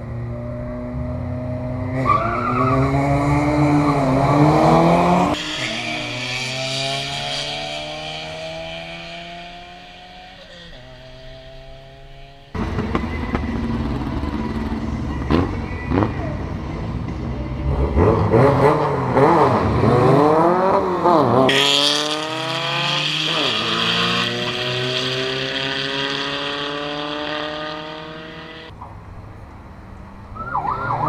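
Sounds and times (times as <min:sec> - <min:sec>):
drag car engines revving: 0:00.5 - 0:28.8.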